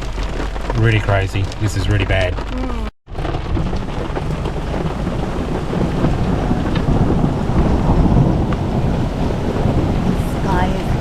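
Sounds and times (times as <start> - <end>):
rain and hail on car roof: 0.0 - 11.0.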